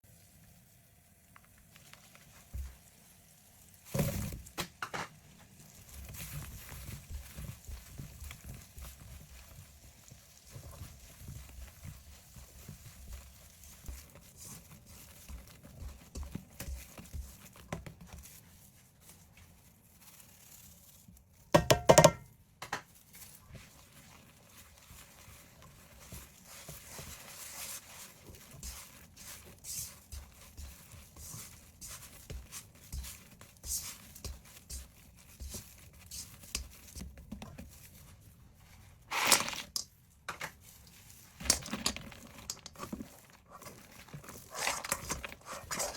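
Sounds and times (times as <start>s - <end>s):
food and utensils rustling and clicking: 0.1s - 45.9s.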